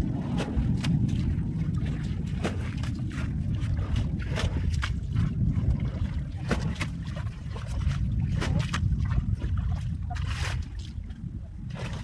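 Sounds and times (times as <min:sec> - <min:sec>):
water splashing: 0:00.0 - 0:12.0
wind rumble on microphone: 0:00.0 - 0:12.0.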